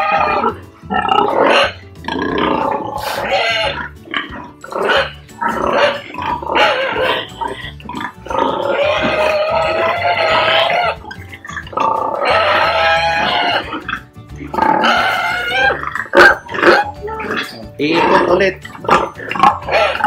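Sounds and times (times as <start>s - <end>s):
background music: 0.0s - 20.0s
pigs vocalizing: 0.0s - 20.0s.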